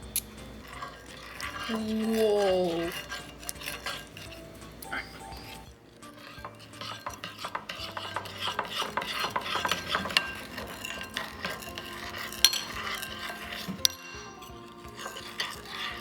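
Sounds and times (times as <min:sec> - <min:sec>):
spoon stirring and scraping container: 0:00.0 - 0:16.0.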